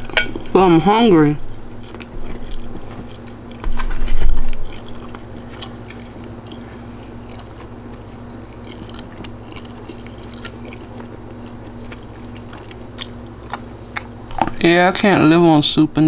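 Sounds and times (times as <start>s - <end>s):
person chewing food: 0.0s - 14.6s
low electrical hum: 0.0s - 16.0s.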